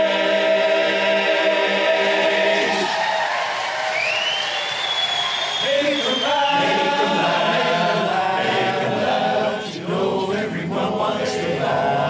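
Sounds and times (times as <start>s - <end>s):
barbershop chorus singing: 0.0s - 3.3s, 5.5s - 12.0s.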